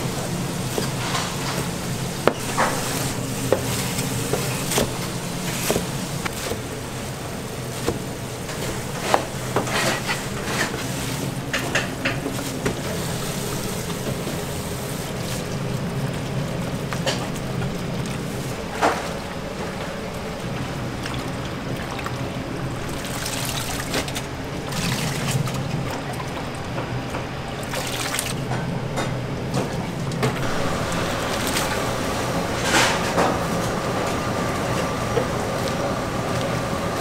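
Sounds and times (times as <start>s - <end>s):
low kitchen hum: 0.0s - 37.0s
water sloshing and trickling: 0.0s - 37.0s.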